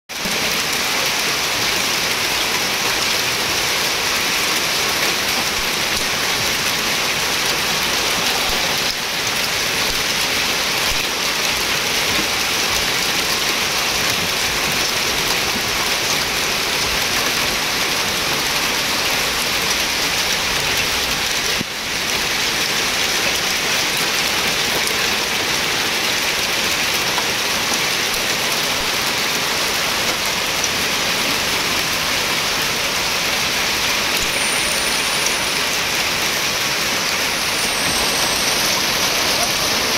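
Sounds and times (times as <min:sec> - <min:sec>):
heavy rain and hail on pavement: 0:00.1 - 0:39.9.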